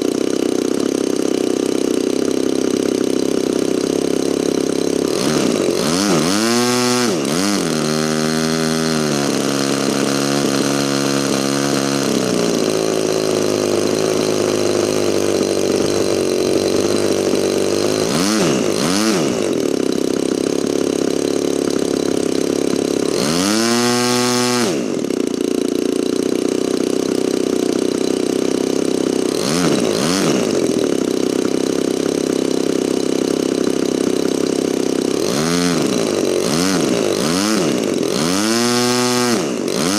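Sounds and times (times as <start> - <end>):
model aeroplane engine revving: 0.0 - 39.9.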